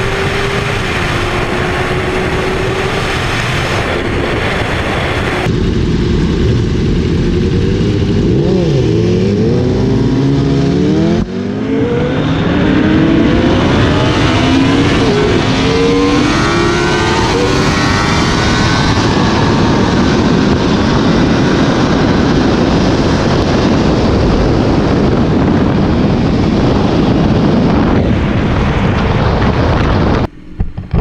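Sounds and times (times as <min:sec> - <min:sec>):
motorcycle engine accelerating: 0:00.0 - 0:31.0
wind rush over microphone: 0:00.0 - 0:31.0.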